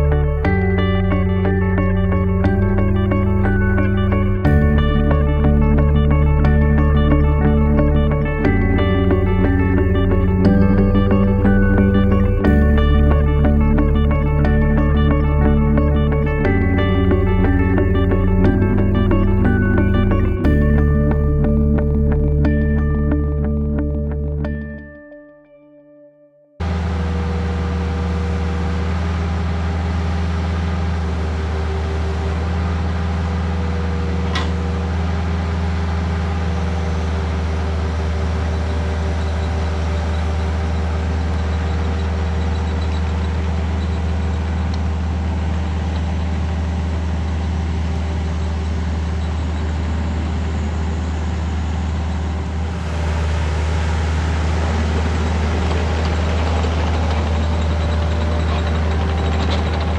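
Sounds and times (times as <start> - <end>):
excavator diesel engine running: 0.0 - 24.6, 26.6 - 59.9.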